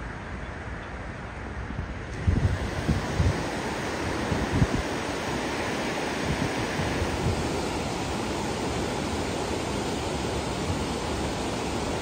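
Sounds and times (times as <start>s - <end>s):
wind buffeting microphone: 1.2s - 12.0s
river water rushing over weir: 1.3s - 12.0s.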